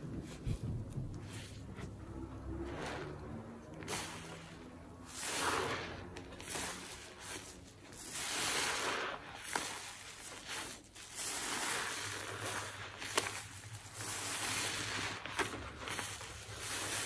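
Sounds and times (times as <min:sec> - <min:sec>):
sponge squelching in suds: 0:00.0 - 0:17.0.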